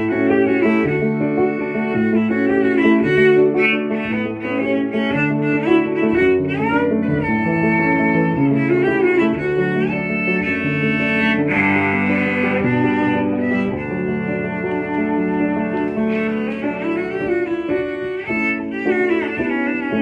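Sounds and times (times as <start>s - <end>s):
bowed cello playing quick melody: 0.0s - 20.0s.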